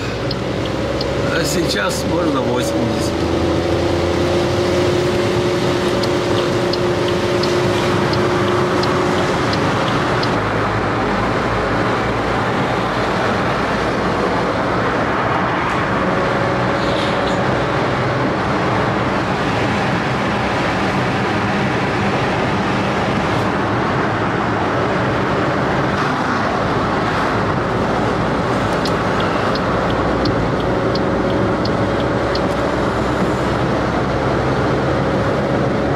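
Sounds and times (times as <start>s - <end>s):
tyre noise and engine hum: 0.0s - 35.9s.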